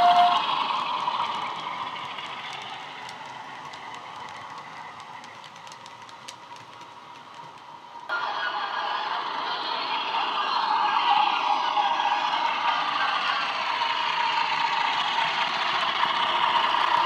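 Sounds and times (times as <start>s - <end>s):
diesel engine sound from small speaker: 0.0s - 5.8s, 8.1s - 17.0s
model wagon wheels clicking on track: 0.0s - 8.1s, 9.2s - 17.0s.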